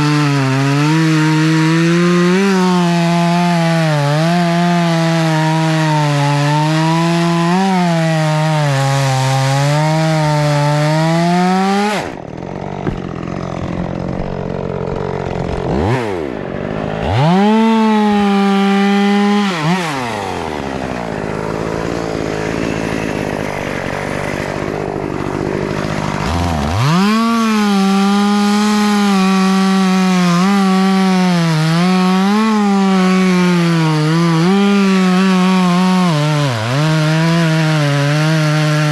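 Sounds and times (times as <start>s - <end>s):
chainsaw cutting: 0.0s - 38.9s.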